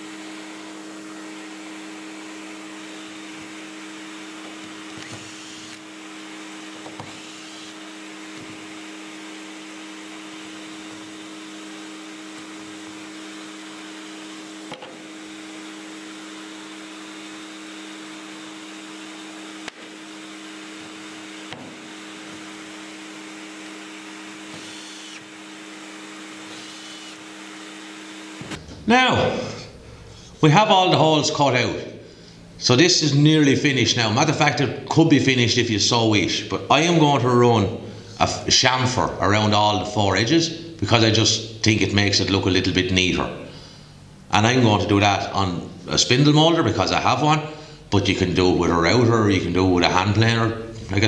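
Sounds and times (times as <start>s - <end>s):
dust extractor running: 0.0s - 51.0s.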